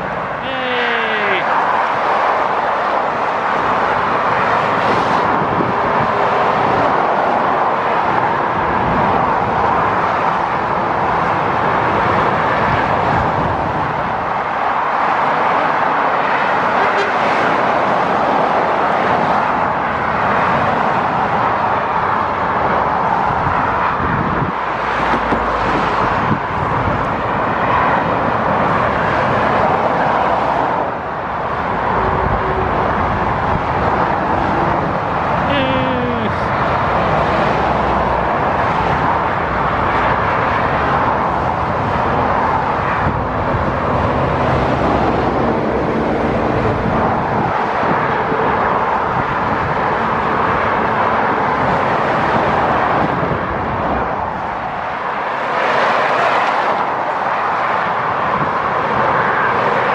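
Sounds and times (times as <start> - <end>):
motorway traffic rushing: 0.0 - 59.9.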